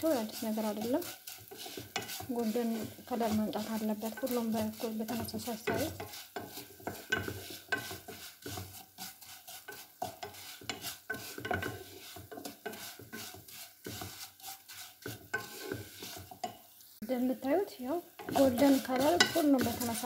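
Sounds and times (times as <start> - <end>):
faint oil sizzle: 0.0 - 20.0
noodles scraping against pot: 0.0 - 20.0.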